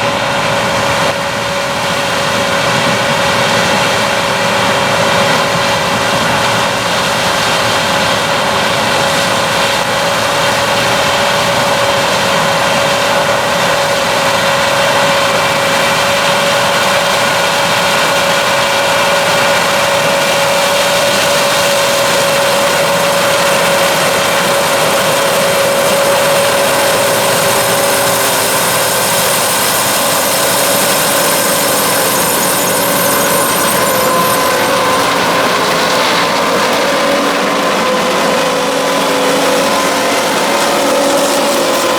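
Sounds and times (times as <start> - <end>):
combine harvester droning: 0.0 - 41.9
high machine whine: 0.0 - 41.9.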